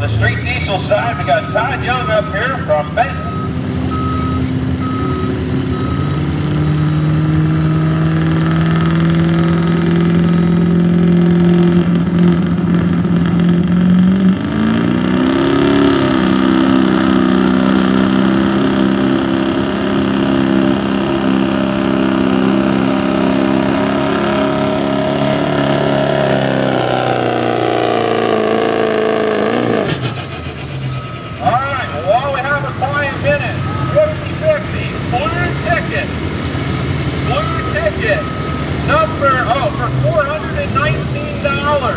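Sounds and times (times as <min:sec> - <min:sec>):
diesel pickup engine running hard: 0:00.0 - 0:41.9
turbocharger whine: 0:00.0 - 0:41.9.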